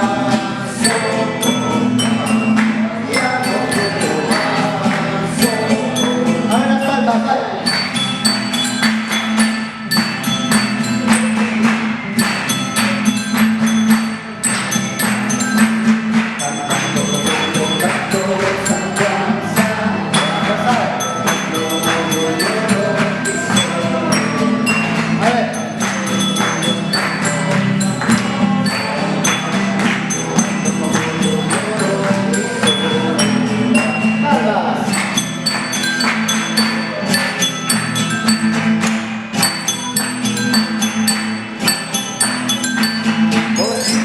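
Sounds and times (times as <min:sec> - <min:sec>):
ensemble playing folk music: 0:00.0 - 0:44.0
wavering melody: 0:00.0 - 0:44.0
quick percussion strikes: 0:07.6 - 0:44.0.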